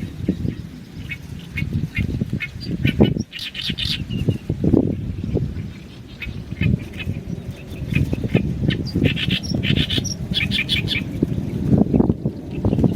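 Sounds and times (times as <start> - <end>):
reed warbler singing: 0.0 - 12.9.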